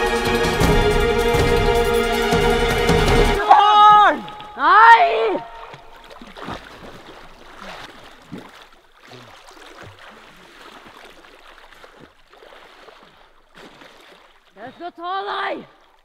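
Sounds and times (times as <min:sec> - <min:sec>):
swimmers splashing in water: 0:00.0 - 0:16.0.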